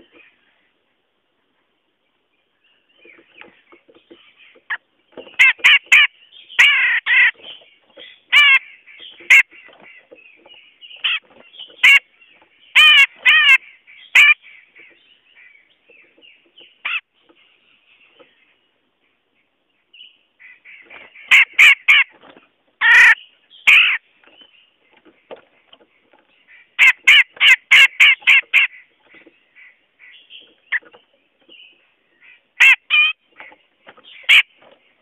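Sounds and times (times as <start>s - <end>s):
soft bird chatter: 0.0s - 35.0s
bulbul calling: 2.6s - 35.0s.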